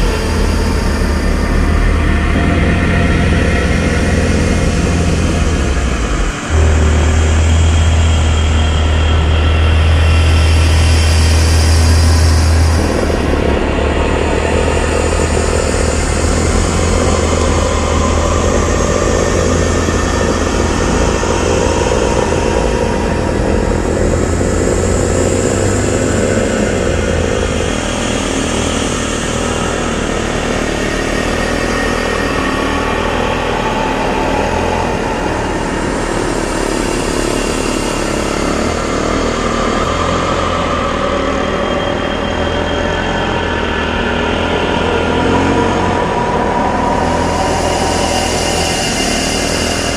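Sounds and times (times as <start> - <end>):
snowmobile engine droning: 0.0 - 49.9
track churning through snow: 0.0 - 49.9.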